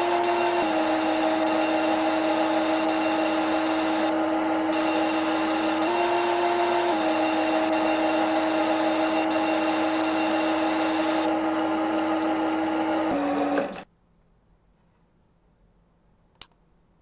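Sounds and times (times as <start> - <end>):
machine hum: 0.0 - 13.6.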